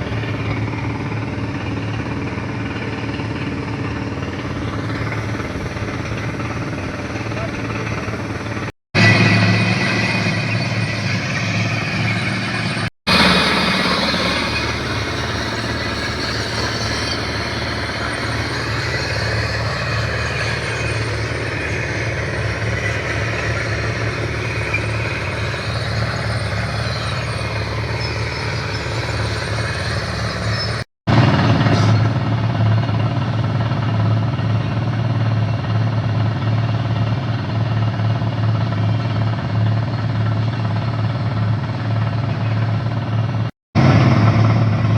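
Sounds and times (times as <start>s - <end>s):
truck diesel engine droning: 0.0s - 44.9s.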